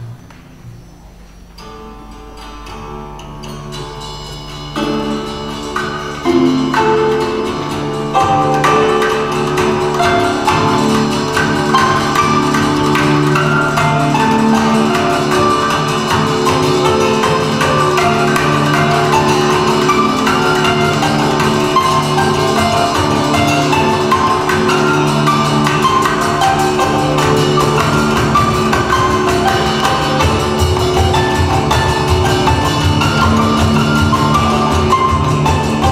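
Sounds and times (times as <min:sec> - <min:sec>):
plucked lute and zither ensemble: 0:00.0 - 0:35.9.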